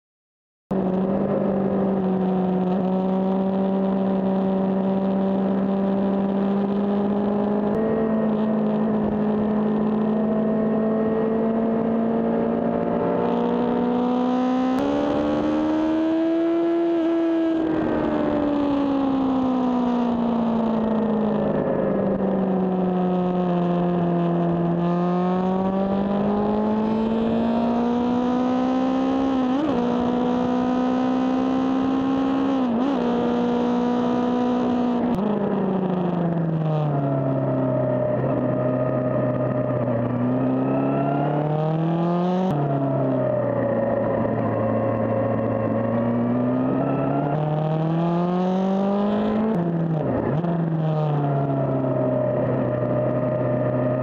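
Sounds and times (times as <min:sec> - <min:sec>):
gear changes: 0:00.7 - 0:54.0
motorcycle engine running: 0:00.7 - 0:54.0.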